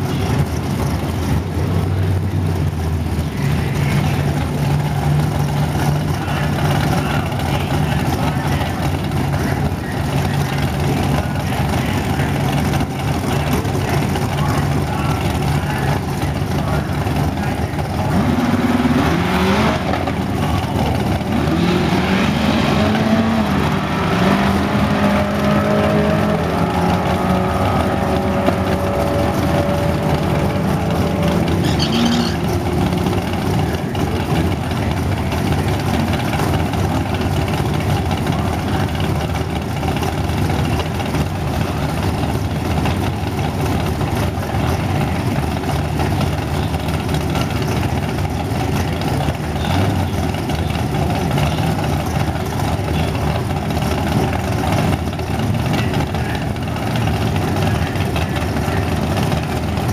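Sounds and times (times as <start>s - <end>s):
drag car engines revving: 0.0s - 59.9s.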